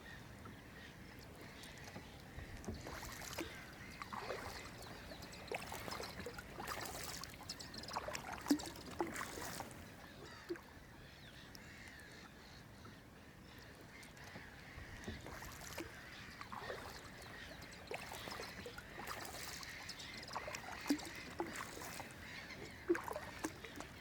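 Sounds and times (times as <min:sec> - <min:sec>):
water drips and plinks: 0:00.4 - 0:10.7, 0:12.8 - 0:24.0
kayak paddle splashing water: 0:01.2 - 0:10.7, 0:14.0 - 0:24.0.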